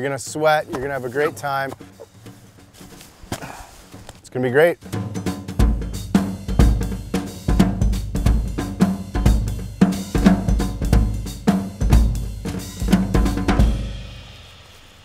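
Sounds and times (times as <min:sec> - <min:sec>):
drum kit beat: 0:00.3 - 0:04.1, 0:04.8 - 0:15.0.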